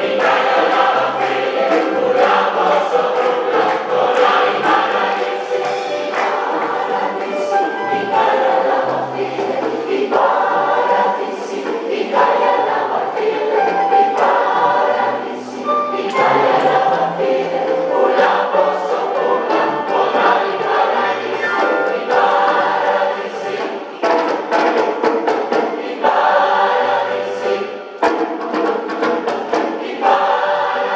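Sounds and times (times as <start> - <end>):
large choir singing: 0.0 - 30.9.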